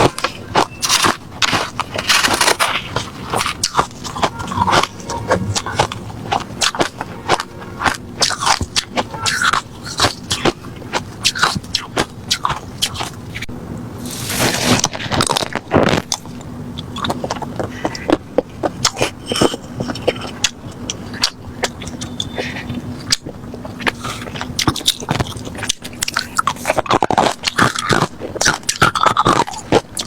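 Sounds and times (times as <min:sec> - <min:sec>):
ice being crunched and chewed: 0:00.0 - 0:30.0.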